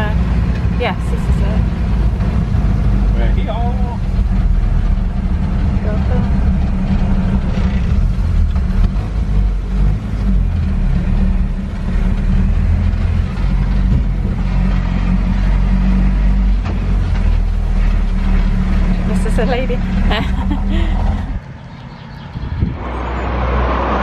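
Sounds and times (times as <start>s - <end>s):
van engine droning: 0.0s - 24.0s.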